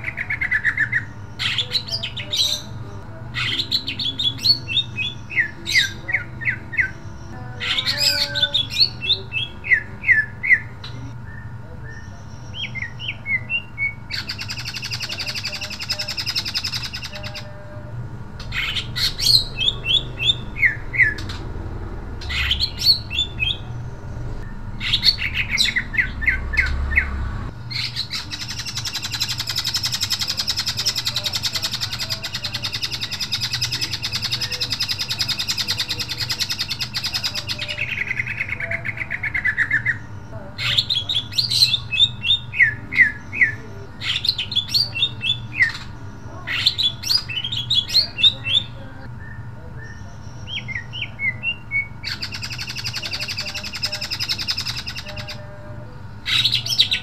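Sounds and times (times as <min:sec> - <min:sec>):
bird chattering warble: 0:00.0 - 0:57.0
bird whistling: 0:03.4 - 0:17.5, 0:18.4 - 0:21.4, 0:22.2 - 0:23.8, 0:24.4 - 0:55.4.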